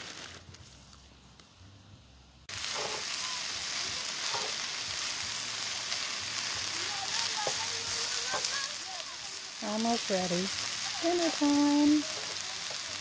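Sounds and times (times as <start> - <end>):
meat sizzling in a frying pan: 2.5 - 13.0.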